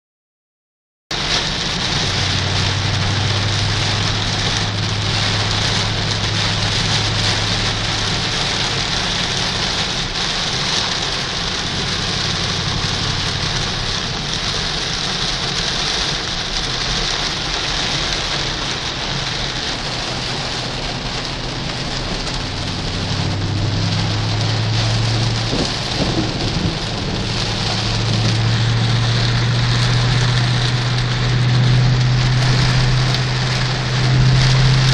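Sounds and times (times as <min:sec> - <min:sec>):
car engine drone: 0:01.1 - 0:34.9
heavy rain on car roof: 0:01.1 - 0:34.9.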